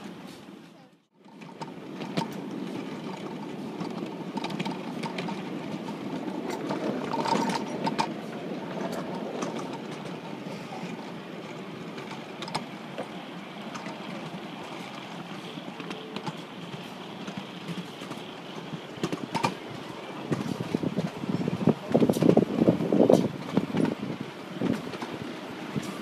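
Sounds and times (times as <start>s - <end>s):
train wheels rumbling on rails: 0.0s - 26.0s
sharp clicks and clacks: 1.2s - 25.2s.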